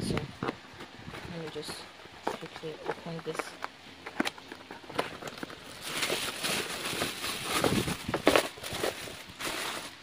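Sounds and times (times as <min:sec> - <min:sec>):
plastic wrapping rustling: 0:00.0 - 0:10.0.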